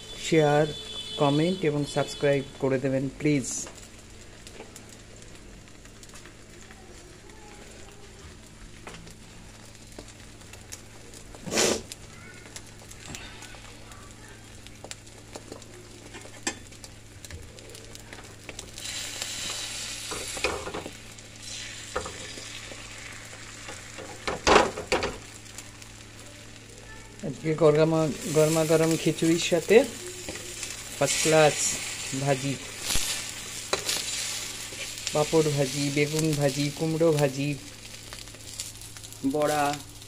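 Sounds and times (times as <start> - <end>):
omelette sizzling in oil: 3.3 - 40.0.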